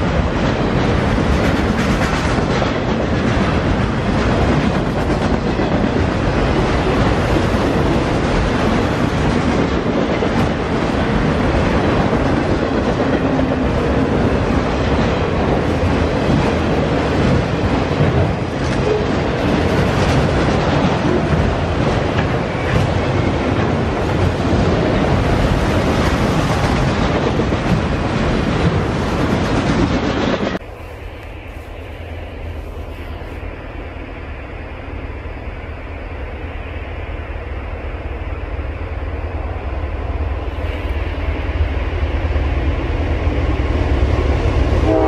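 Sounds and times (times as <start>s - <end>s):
freight train wheels rumbling and clacking: 0.0s - 45.0s.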